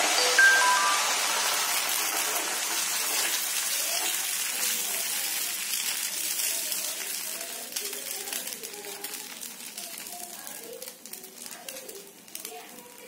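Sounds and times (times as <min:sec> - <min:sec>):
batter sizzling on hot pan: 0:00.0 - 0:13.0.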